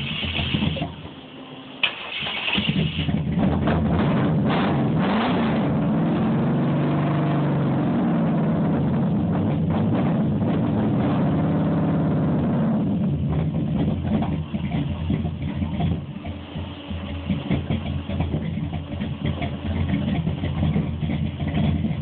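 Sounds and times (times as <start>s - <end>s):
engine cranking and idling: 0.0s - 22.0s.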